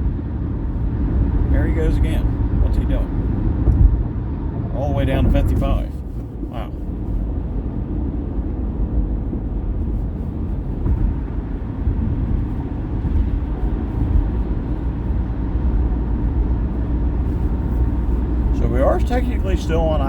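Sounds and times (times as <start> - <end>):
car road and tyre noise: 0.0 - 20.0.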